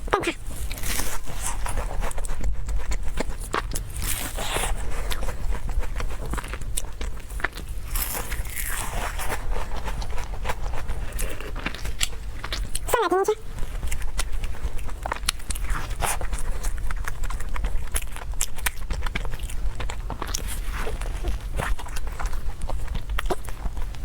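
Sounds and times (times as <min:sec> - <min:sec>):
person chewing and crunching: 0:00.0 - 0:24.0.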